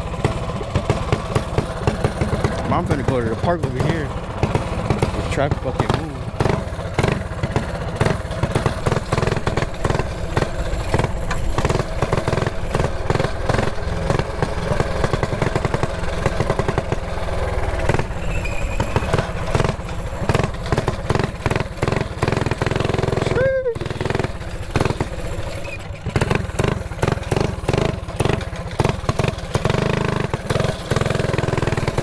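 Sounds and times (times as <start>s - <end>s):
small bike engine running: 0.0s - 32.0s.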